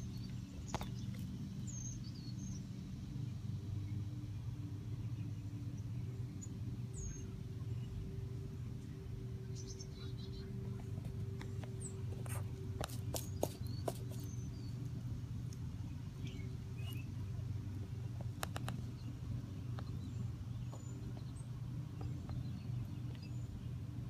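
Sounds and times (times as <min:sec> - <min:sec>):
birds chirping faintly: 0:00.0 - 0:24.0
steady low hum: 0:00.0 - 0:24.0.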